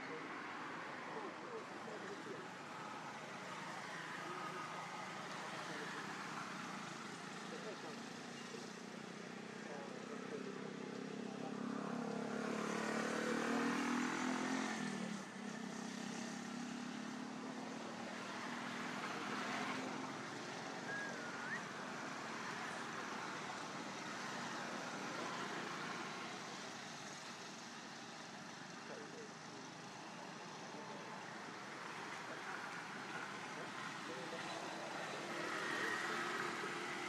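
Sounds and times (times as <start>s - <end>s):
low traffic hum: 0.0s - 37.0s
passing motor vehicle engine hum: 0.0s - 37.0s.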